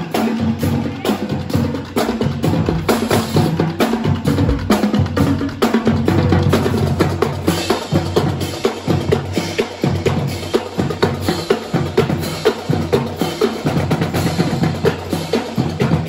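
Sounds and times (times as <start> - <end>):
marching drumline cadence: 0.0 - 16.0.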